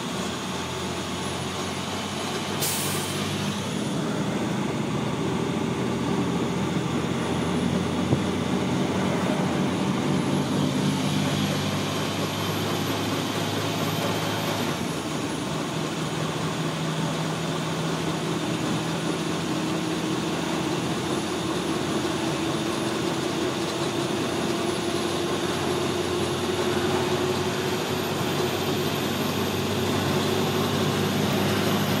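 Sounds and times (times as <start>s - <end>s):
vehicle engine and road noise: 0.0s - 32.0s.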